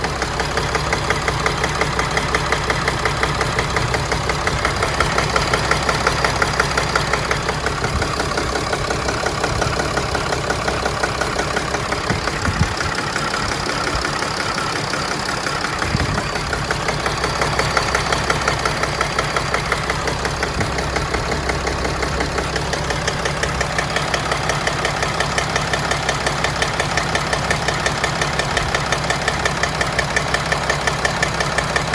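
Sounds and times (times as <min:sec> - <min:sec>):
van engine idling roughly: 0:00.0 - 0:31.9.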